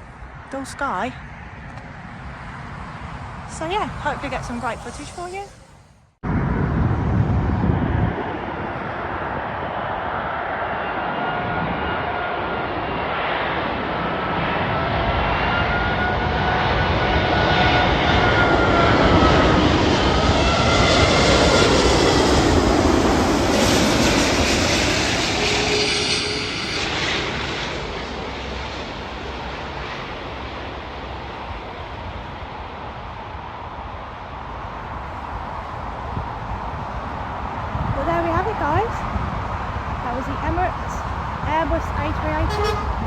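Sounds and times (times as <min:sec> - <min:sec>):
airliner passing overhead: 0:00.0 - 0:43.0.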